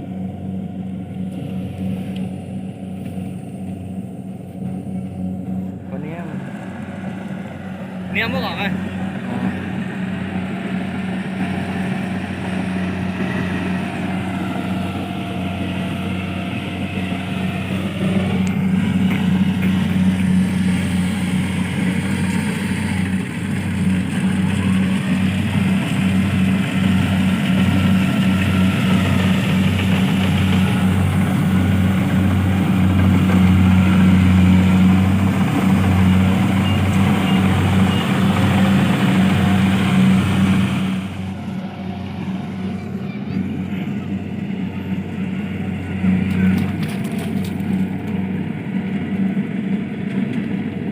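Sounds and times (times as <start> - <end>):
harvesting machine engine humming: 0.0 - 50.9.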